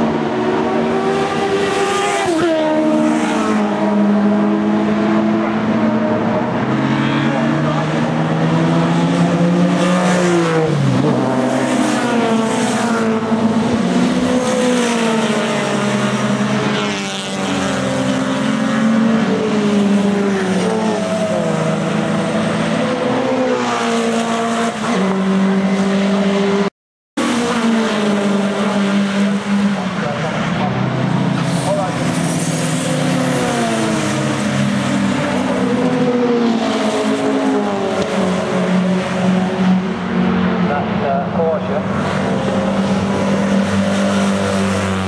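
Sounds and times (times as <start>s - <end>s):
racing car engines: 0.0s - 45.0s.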